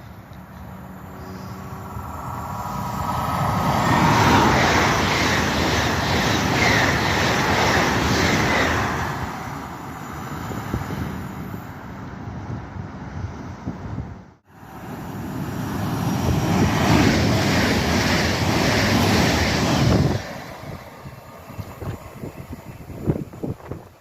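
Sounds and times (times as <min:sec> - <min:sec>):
train passing: 0:00.0 - 0:24.0.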